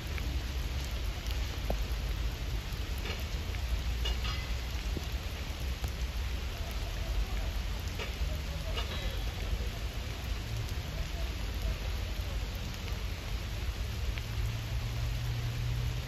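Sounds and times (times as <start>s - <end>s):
constant low rumble: 0.0s - 15.9s
heavy rain falling: 0.0s - 16.0s.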